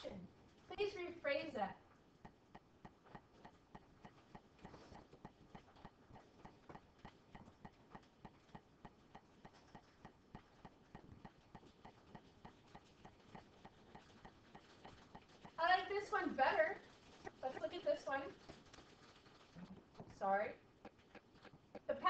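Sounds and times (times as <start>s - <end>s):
faint regular ticking: 0.0s - 22.0s.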